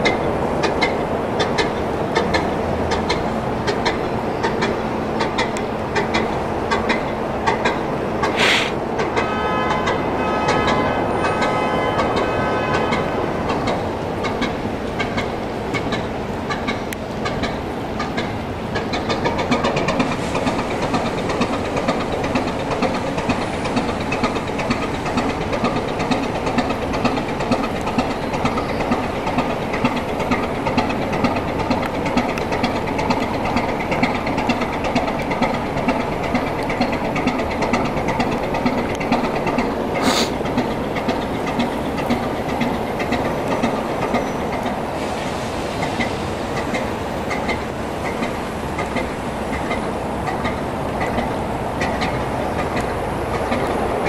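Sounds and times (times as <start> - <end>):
diesel engine rhythmic beat: 0.0 - 45.0, 45.6 - 54.0.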